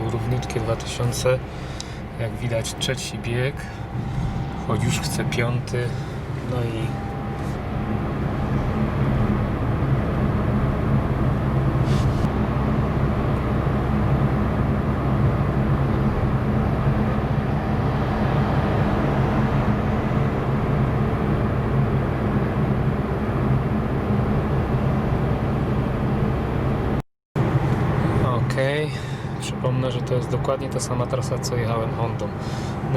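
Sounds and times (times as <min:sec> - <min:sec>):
car engine drone: 0:00.0 - 0:32.9
road and tyre noise: 0:00.0 - 0:32.9.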